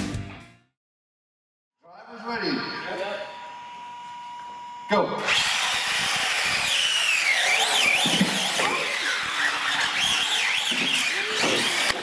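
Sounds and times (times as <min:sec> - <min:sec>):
high motor whines: 0:02.3 - 0:12.0.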